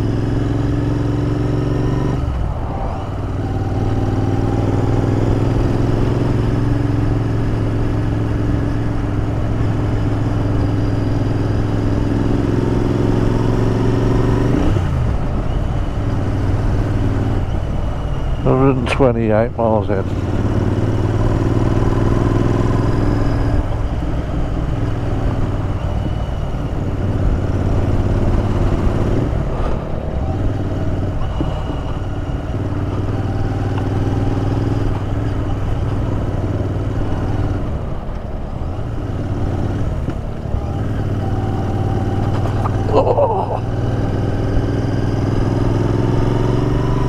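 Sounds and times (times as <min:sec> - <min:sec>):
motorcycle engine cruising: 0:00.0 - 0:47.0
wind and road noise: 0:00.0 - 0:47.0.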